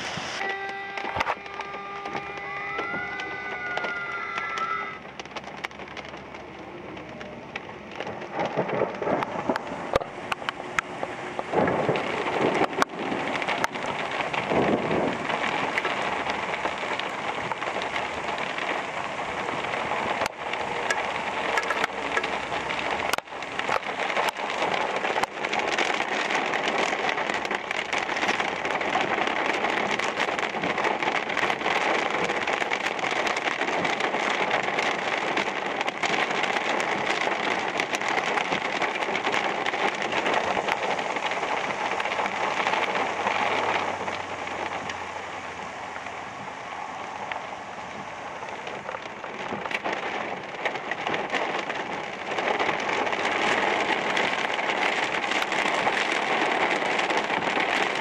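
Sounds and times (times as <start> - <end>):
heavy rain on a car: 0.0 - 58.0.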